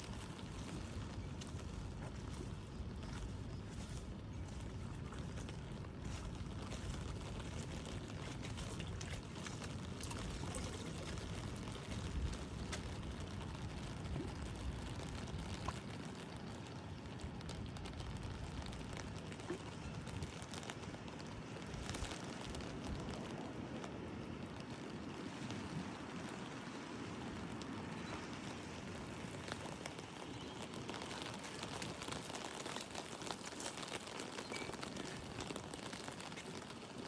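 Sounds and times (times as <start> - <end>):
rain on an umbrella: 0.0 - 37.0.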